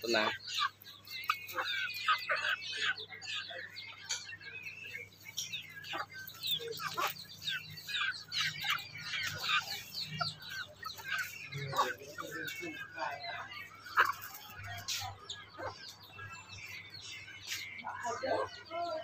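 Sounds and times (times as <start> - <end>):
chickens clucking: 0.0 - 19.0
chicks peeping: 0.0 - 19.0.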